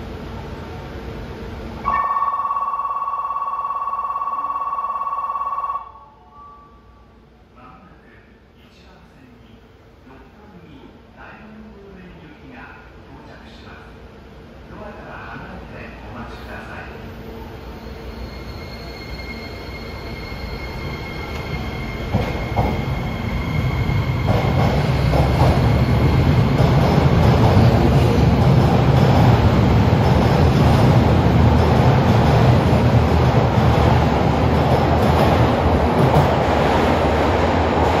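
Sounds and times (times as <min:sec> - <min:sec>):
subway train wheels rumbling: 0:00.0 - 0:38.0.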